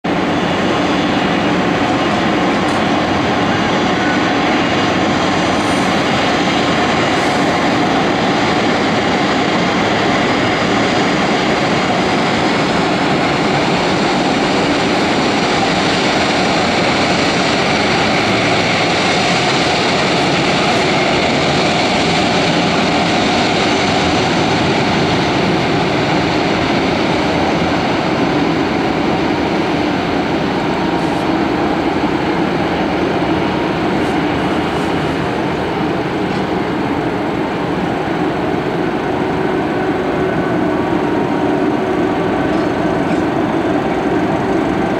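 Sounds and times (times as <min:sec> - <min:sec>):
jet engines rushing: 0:00.0 - 0:44.9.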